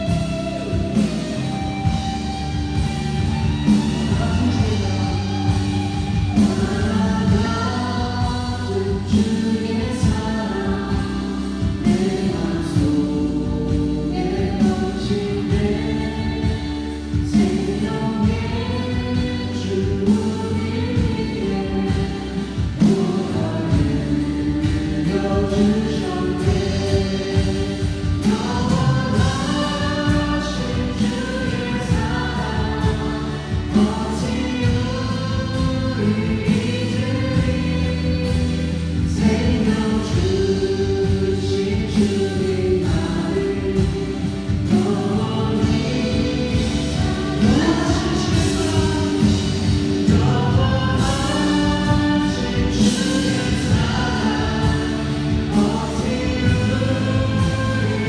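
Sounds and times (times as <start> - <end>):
band accompaniment with drums: 0.0 - 58.0
group singing worship song: 0.0 - 58.0.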